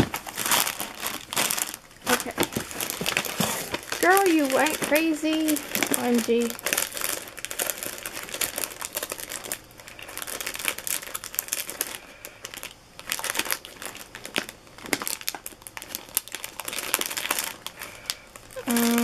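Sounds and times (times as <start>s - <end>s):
paper filler and plastic rustling: 0.0s - 19.0s.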